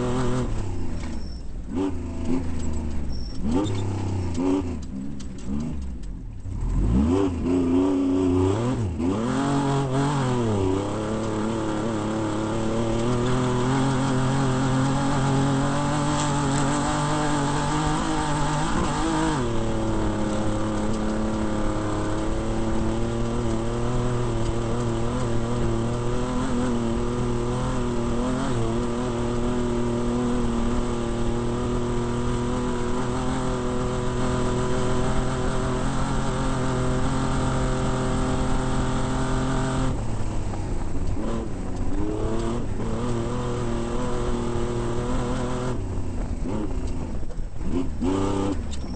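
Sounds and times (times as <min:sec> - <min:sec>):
engine running at high revs: 0:00.0 - 0:48.9
wind and road noise: 0:00.0 - 0:48.9.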